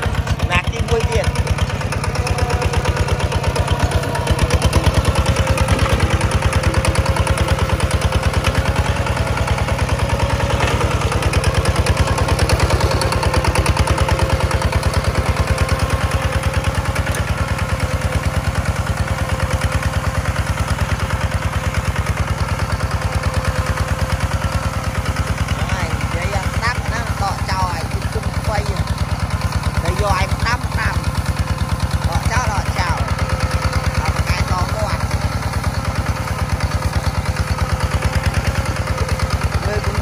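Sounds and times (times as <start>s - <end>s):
diesel engine chugging: 0.0s - 40.0s.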